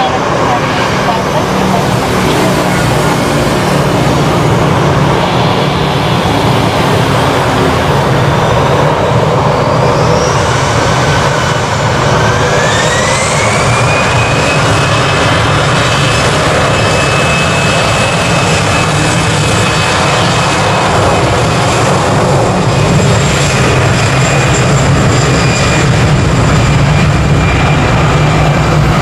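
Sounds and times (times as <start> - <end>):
jet engines spooling up: 0.0 - 29.0.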